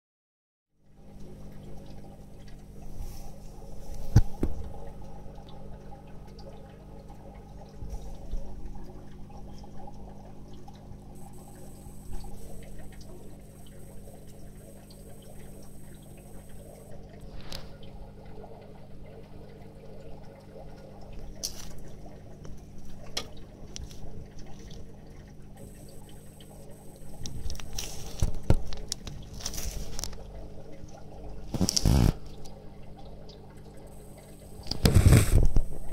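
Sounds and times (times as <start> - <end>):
steady low hum: 0.8 - 35.9
water trickling: 0.8 - 35.9.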